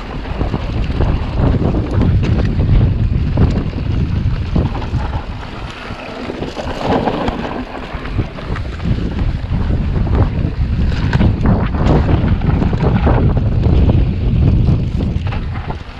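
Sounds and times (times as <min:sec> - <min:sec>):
bike rattling over bumps: 0:00.0 - 0:15.9
tyres running over dirt: 0:00.0 - 0:15.9
wind buffeting microphone: 0:00.0 - 0:15.9.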